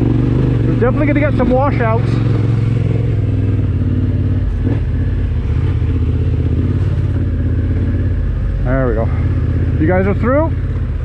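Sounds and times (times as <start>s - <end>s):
motorcycle engine running at low revs: 0.0s - 11.0s.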